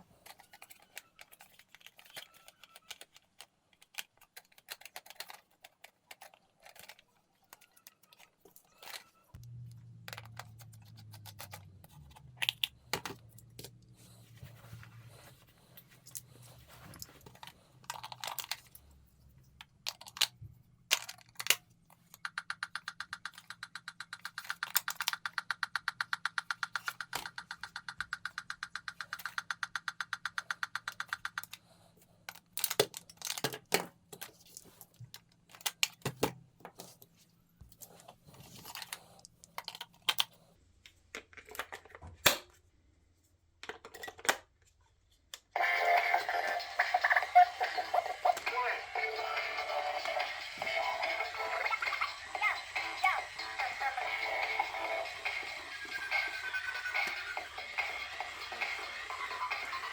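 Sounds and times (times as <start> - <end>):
plastic toy and packaging rattling: 0.0 - 37.2, 37.8 - 42.3, 43.6 - 59.9.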